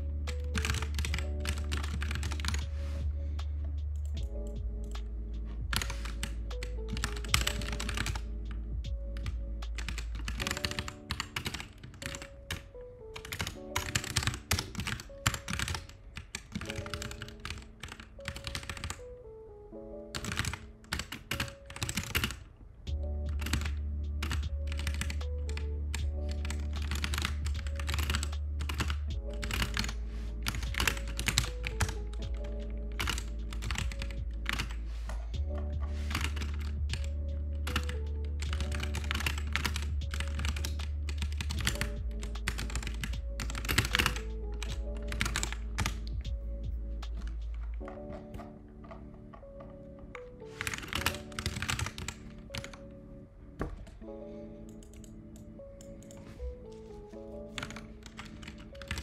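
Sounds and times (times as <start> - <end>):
keyboard typing: 0.0 - 59.0
lofi background music: 0.0 - 59.0.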